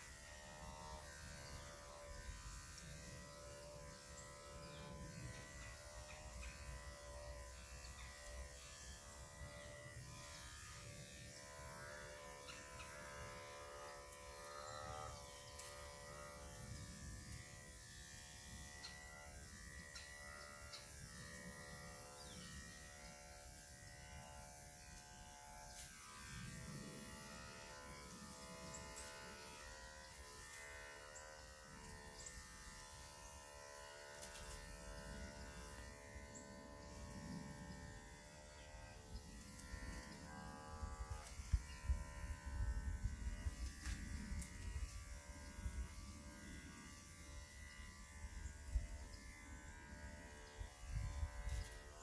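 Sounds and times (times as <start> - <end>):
electric clippers buzzing: 0.0 - 52.0.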